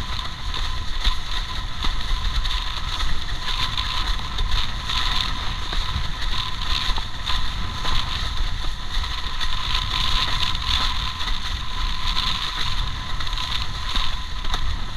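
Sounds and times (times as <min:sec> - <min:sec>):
water rushing along hull: 0:00.0 - 0:14.9
wind buffeting microphone: 0:00.0 - 0:14.9.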